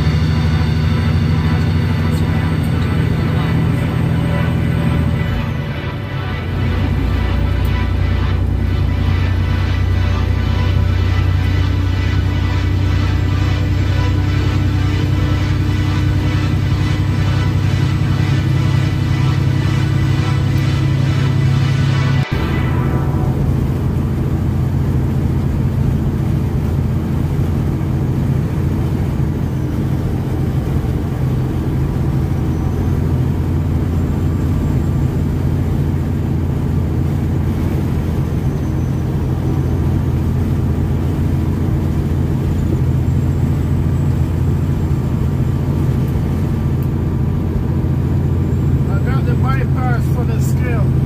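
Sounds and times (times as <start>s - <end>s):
truck diesel engine drone: 0.0s - 51.0s.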